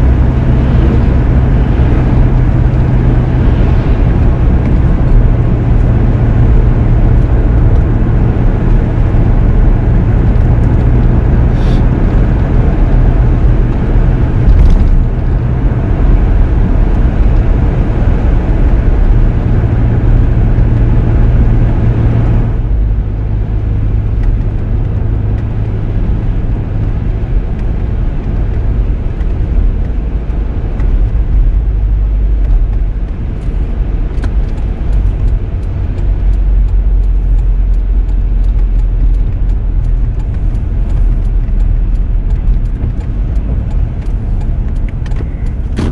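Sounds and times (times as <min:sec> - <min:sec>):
engine and road hum: 0:00.0 - 0:45.9.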